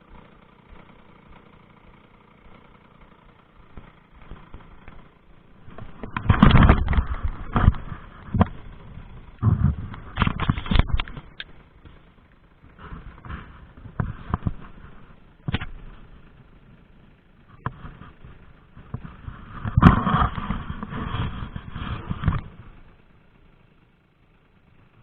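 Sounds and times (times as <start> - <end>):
moped knocking and rattling: 0.0 - 16.4, 17.5 - 23.0.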